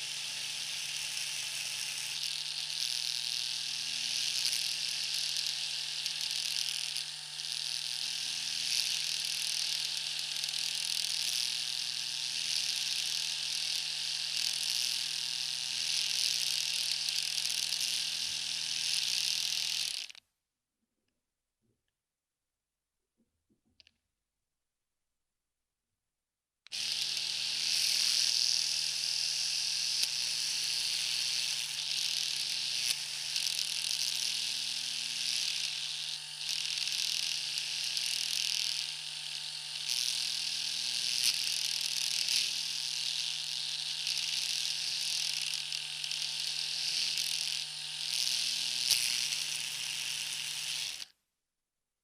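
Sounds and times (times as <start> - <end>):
electric shaver buzzing: 0.0 - 20.2, 26.7 - 51.2.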